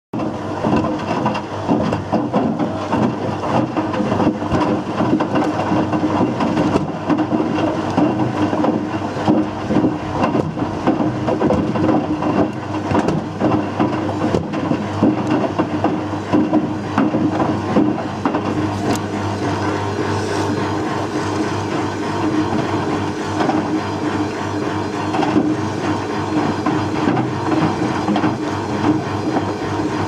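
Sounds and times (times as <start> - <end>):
objects clattering in washing drum: 0.2 - 29.6
washing machine motor hum: 0.2 - 30.0.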